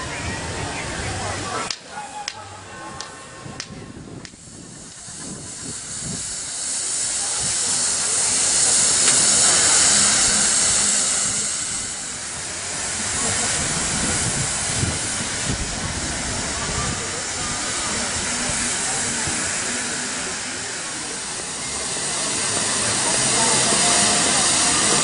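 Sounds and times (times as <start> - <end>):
steam engine hissing: 0.0 - 25.0.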